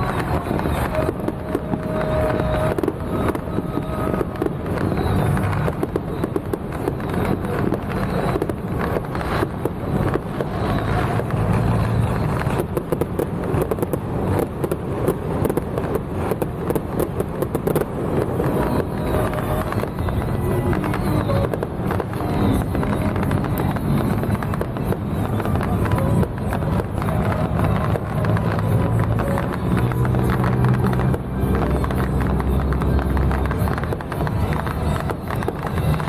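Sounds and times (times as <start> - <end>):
fireworks crackling and popping: 0.0 - 36.0.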